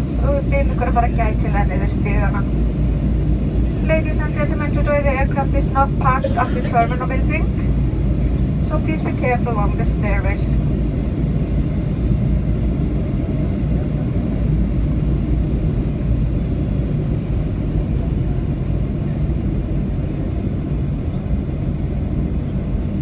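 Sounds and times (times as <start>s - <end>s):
aircraft cabin engine rumble: 0.0s - 23.0s.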